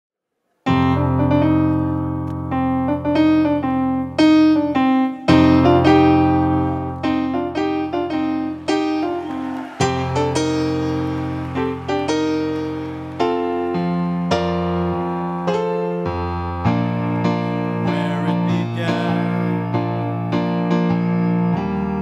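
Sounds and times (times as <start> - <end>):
solo piano music: 0.7 - 22.0.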